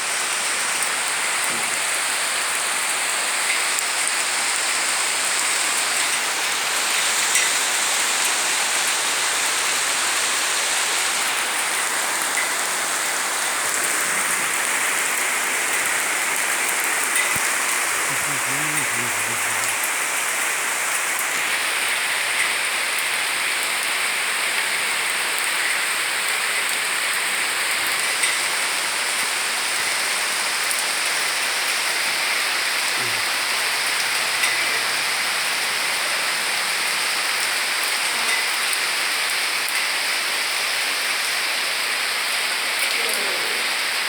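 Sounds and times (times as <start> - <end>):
rain falling steadily: 0.0 - 44.0.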